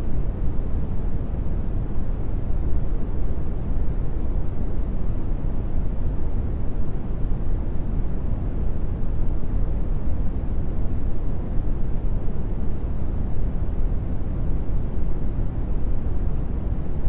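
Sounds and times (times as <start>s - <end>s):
brown noise rumbling hiss: 0.0s - 17.0s.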